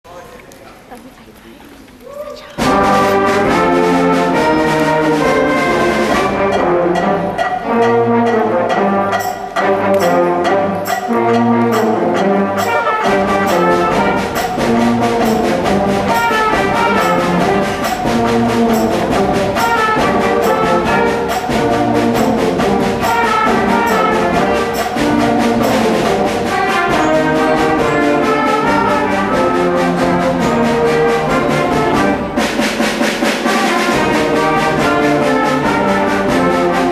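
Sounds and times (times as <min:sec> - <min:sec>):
concert band playing: 0:02.4 - 0:36.9
steady percussion beat: 0:02.5 - 0:36.9.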